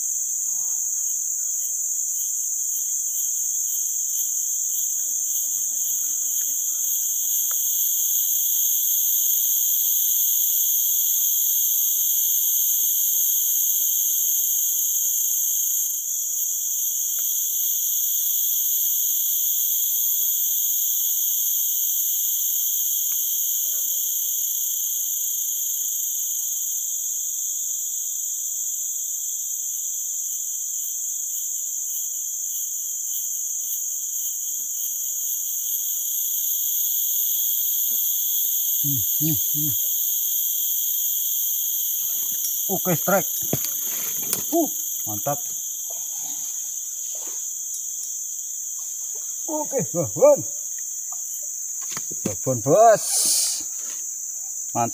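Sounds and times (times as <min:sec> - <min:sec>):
insects droning: 0:00.0 - 0:54.9.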